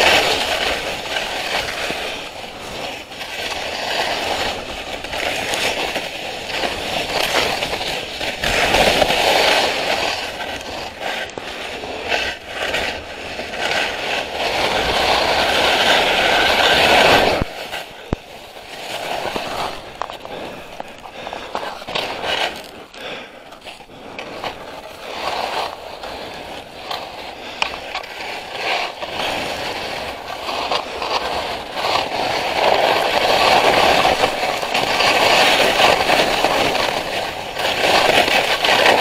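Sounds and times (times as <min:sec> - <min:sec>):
skis hissing and scraping on snow: 0:00.0 - 0:39.0.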